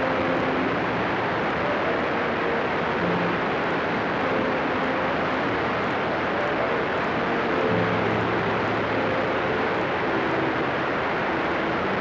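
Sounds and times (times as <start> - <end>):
faint steady tones: 0.0 - 12.0
light aircraft drone: 0.0 - 12.0.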